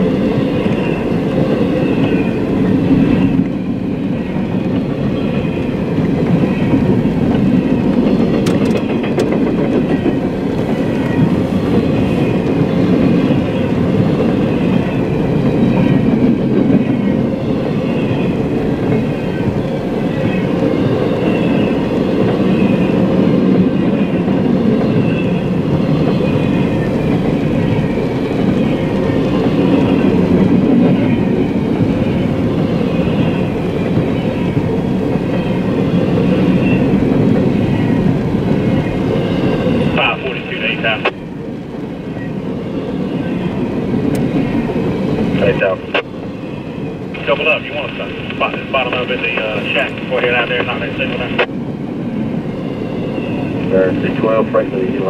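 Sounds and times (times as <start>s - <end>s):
rail clicks: 0.0s - 51.5s
train wheels on rails: 0.0s - 55.0s.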